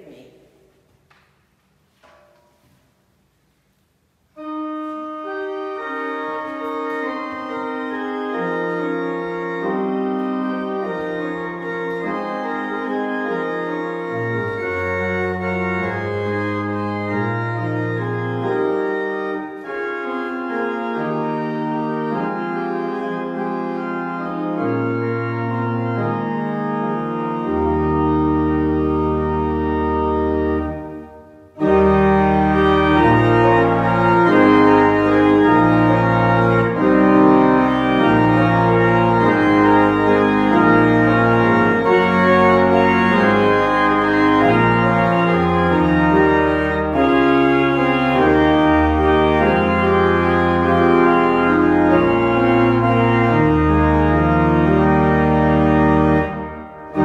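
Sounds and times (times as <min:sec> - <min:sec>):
church organ playing chords: 0:04.2 - 0:57.0.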